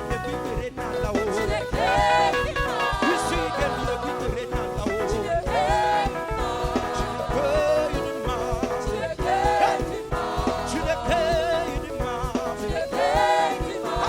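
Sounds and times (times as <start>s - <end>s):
band playing steady beat: 0.0s - 14.0s
person singing gospel: 0.0s - 14.0s.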